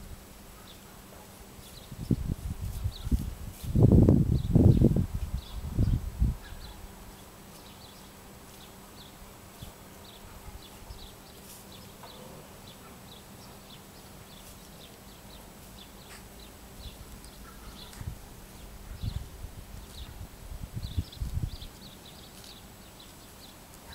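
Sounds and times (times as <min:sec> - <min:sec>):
small birds chirping: 0:00.5 - 0:23.9.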